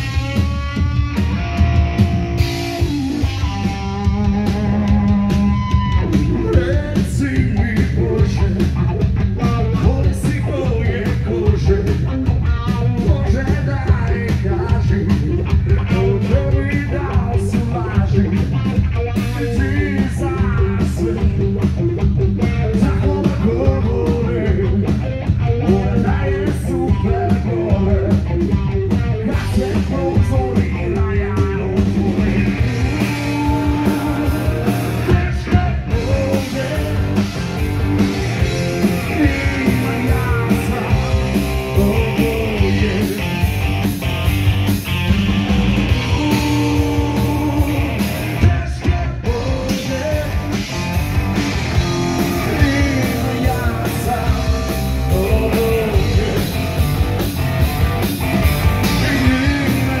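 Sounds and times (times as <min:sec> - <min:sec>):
drum kit: 0:00.0 - 1:00.0
electric guitar: 0:00.0 - 1:00.0
man singing: 0:03.4 - 0:21.8, 0:22.4 - 0:28.4, 0:29.0 - 0:43.4, 0:45.9 - 0:50.9, 0:51.8 - 0:56.9, 0:58.8 - 1:00.0.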